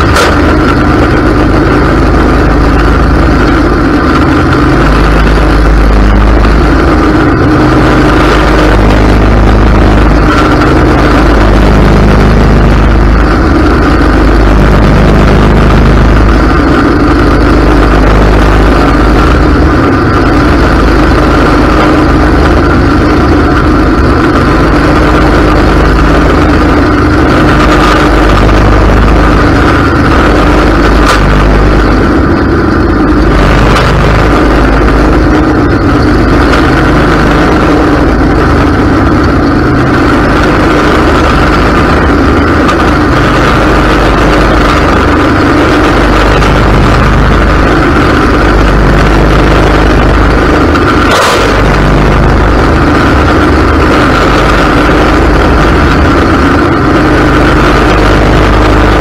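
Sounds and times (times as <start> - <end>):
mower blades cutting grass: 0.0 - 59.0
riding mower engine running: 0.0 - 59.0.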